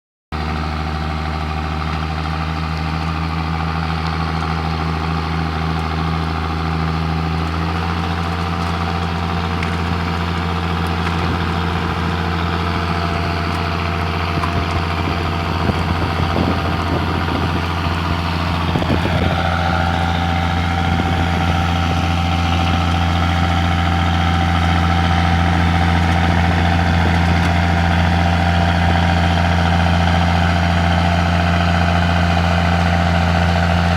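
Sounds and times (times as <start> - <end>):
tractor diesel engine straining: 0.4 - 33.9.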